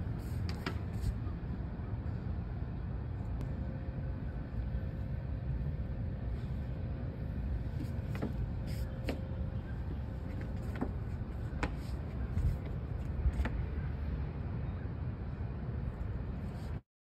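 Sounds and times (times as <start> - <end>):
distant city traffic rumble: 0.0 - 16.8.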